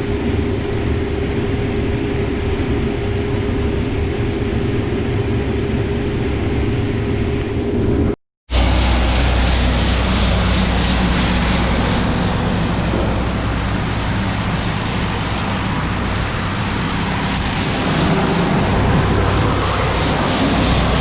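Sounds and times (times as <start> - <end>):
combine harvester engine drone: 0.0 - 21.0.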